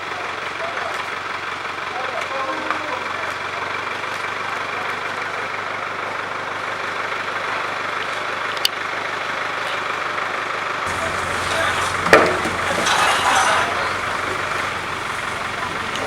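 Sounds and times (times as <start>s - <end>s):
crane engine idling: 0.0s - 2.3s, 3.0s - 16.0s.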